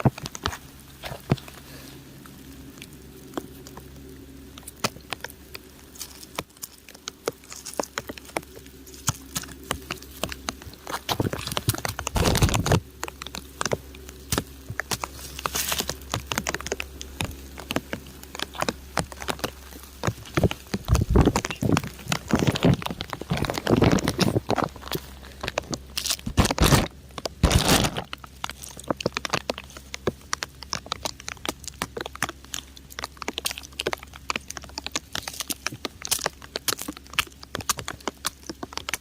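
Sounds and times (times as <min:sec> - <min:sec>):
raindrops pattering on rock: 0:00.0 - 0:39.0.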